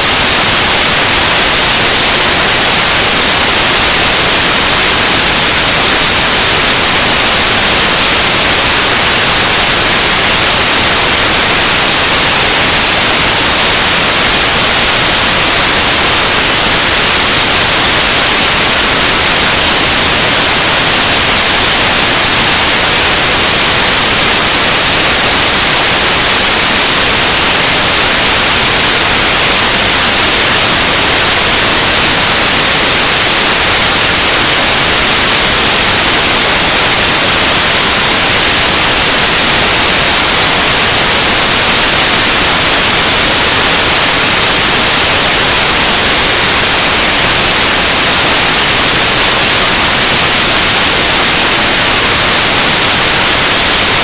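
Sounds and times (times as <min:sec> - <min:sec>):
harsh noise music hiss: 0:00.0 - 0:54.0.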